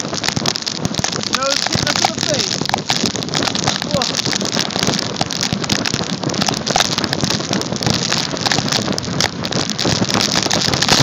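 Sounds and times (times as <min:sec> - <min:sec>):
sled runners crunching over snow: 0:00.0 - 0:11.0
wind buffeting microphone: 0:00.0 - 0:11.0.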